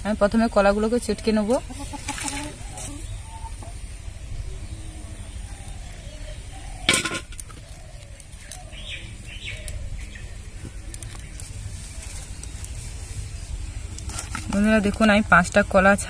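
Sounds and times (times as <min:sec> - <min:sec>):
birds calling softly: 0:01.0 - 0:15.2.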